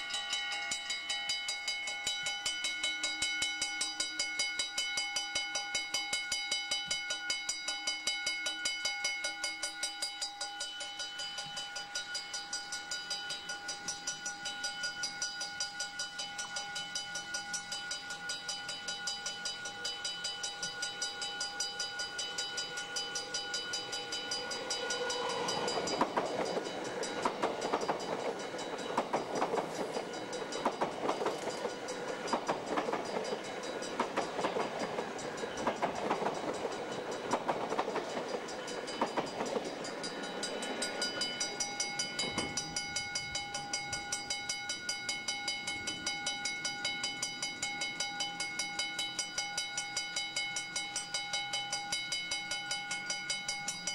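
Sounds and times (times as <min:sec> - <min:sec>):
level crossing bells ringing: 0:00.0 - 0:53.9
train wheels clattering: 0:09.2 - 0:53.9.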